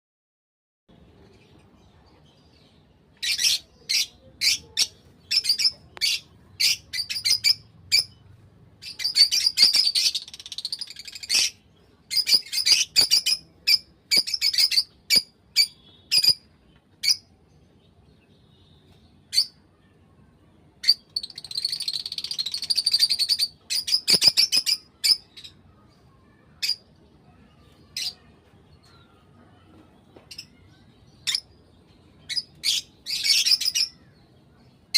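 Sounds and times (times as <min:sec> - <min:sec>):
lovebirds chirping: 0:00.9 - 0:34.9.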